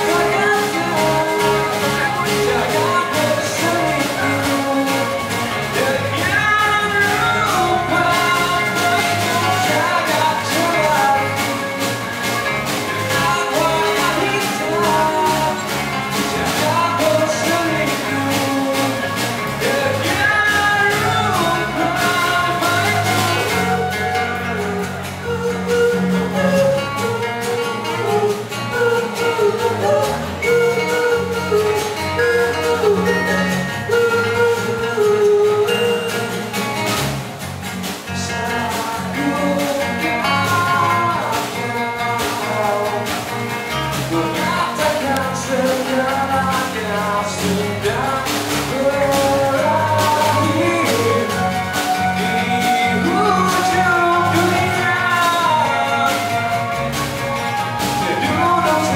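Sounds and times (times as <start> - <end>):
man singing: 0.0 - 37.2, 37.8 - 58.9
acoustic guitars strumming: 0.0 - 58.9
drums: 0.0 - 58.9.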